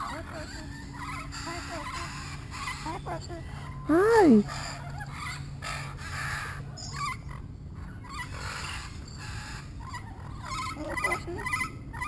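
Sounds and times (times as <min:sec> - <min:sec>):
birds squawking and chirping: 0:00.0 - 0:12.0
low steady hum: 0:00.0 - 0:12.0.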